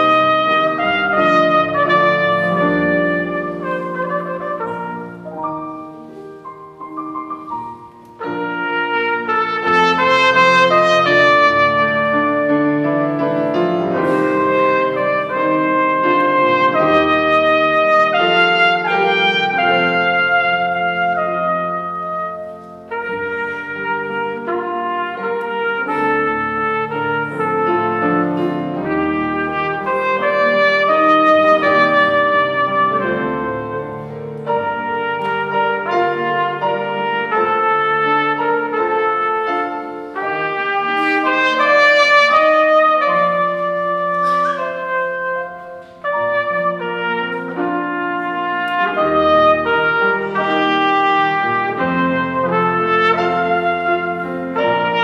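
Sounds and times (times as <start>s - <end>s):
piano accompaniment: 0.0s - 55.0s
trumpet melody: 0.0s - 55.0s.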